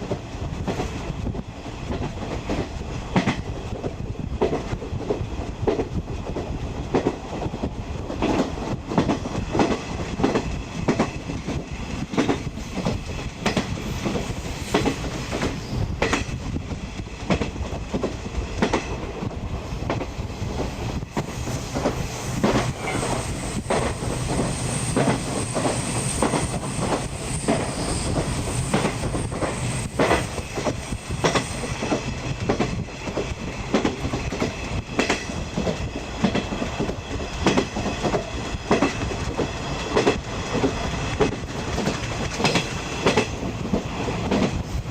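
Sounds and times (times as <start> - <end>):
train wheels clickety-clack on rails: 0.0 - 44.9.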